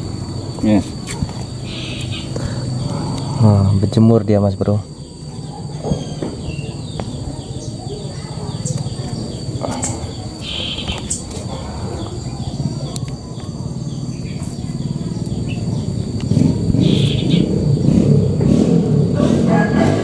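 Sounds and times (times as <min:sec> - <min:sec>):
birds chirping: 0:00.0 - 0:19.2.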